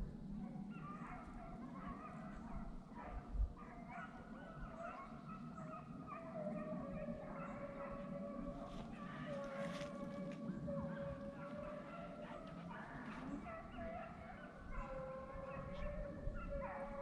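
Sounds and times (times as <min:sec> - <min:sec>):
distant hounds baying: 0:00.0 - 0:17.0.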